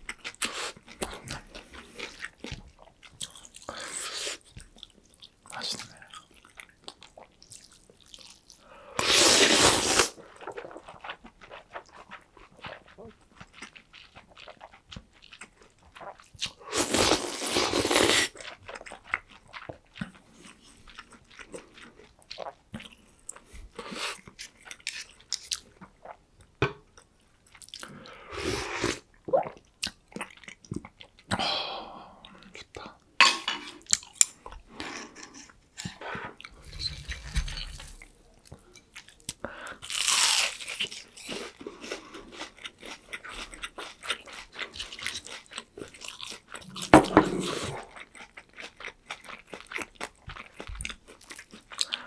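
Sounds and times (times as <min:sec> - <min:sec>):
crunching and chewing food: 0:00.0 - 0:31.4, 0:33.8 - 0:52.0.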